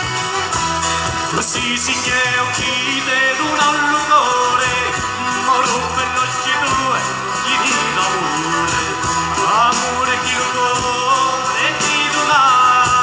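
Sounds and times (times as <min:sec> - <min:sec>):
accordion: 0:00.0 - 0:13.0
folk band playing: 0:00.0 - 0:13.0.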